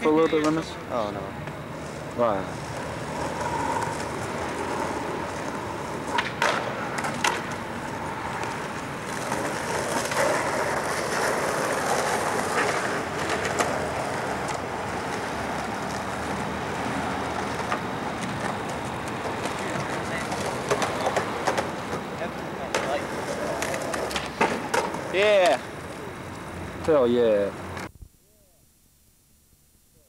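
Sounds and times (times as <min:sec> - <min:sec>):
skateboard wheels rolling: 0:00.0 - 0:27.9
skateboard clacks: 0:02.5 - 0:27.0.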